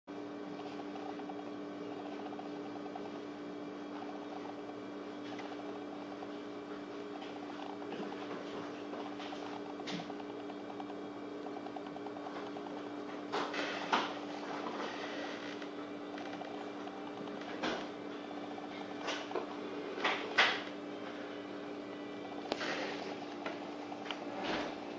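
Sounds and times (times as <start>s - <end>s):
low room hum: 0.1s - 24.9s.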